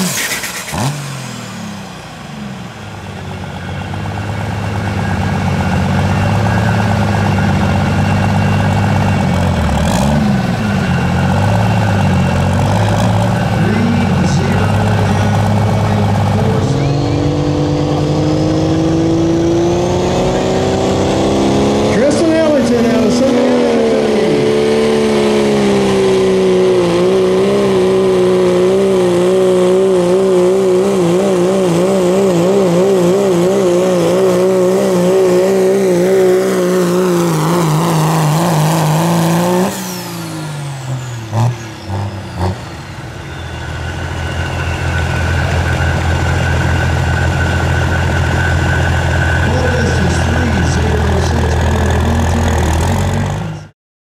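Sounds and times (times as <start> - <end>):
falling high whine: 0.0 - 53.4
diesel engine at full throttle: 0.0 - 53.8.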